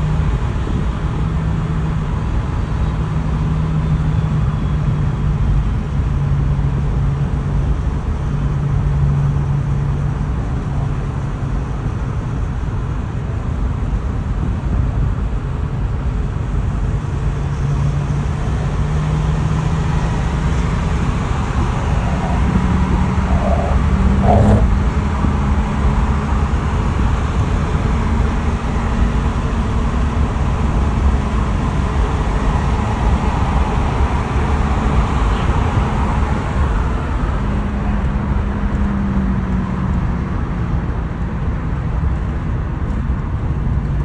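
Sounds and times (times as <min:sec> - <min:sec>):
engines and traffic rumbling: 0:00.0 - 0:44.0.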